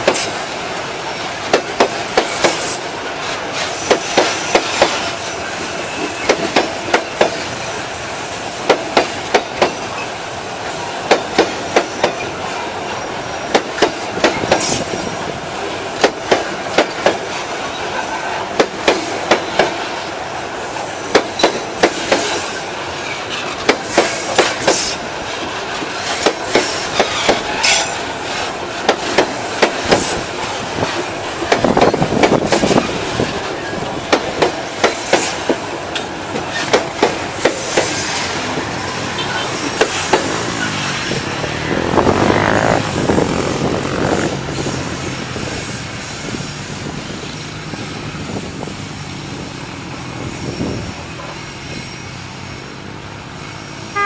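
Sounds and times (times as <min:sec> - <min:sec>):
train wheels clacking over rail joints: 0:00.0 - 0:52.1.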